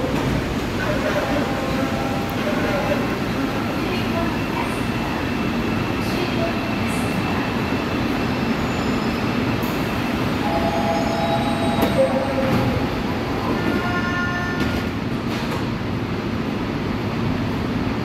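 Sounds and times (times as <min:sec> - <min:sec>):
train doors closing: 0:00.0 - 0:16.0
train and station hum: 0:00.0 - 0:18.0.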